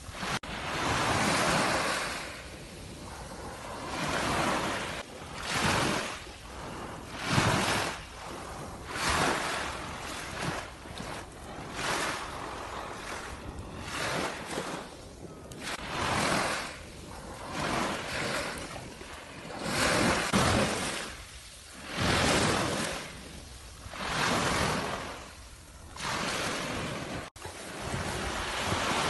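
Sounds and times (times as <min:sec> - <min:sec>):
waves washing on shore: 0:00.0 - 0:29.0
wind on microphone: 0:00.0 - 0:29.0.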